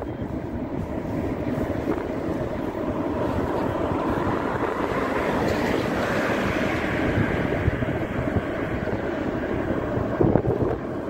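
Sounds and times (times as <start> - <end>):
motorbike engine and tyre noise: 0.0 - 11.0
wind buffeting the microphone: 0.0 - 11.0.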